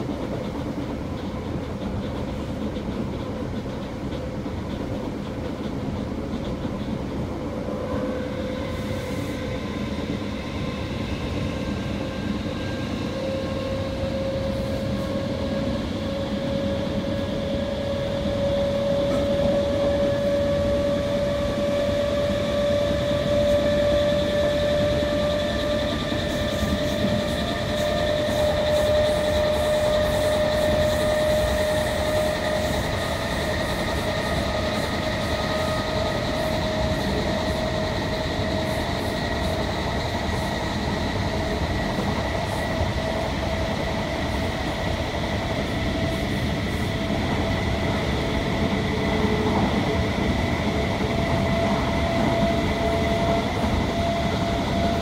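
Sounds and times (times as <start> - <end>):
train rolling noise: 0.0 - 55.0
train traction whine: 0.0 - 55.0.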